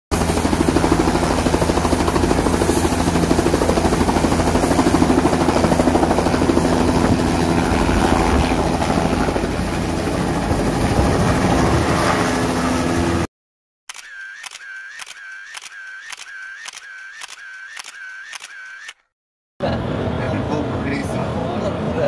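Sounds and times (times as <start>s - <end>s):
helicopter rotor chopping: 0.1s - 13.3s, 13.9s - 19.1s.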